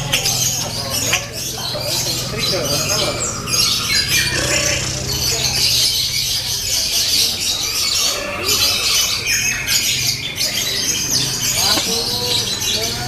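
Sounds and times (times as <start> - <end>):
lovebirds chattering trills: 0.0 - 13.0.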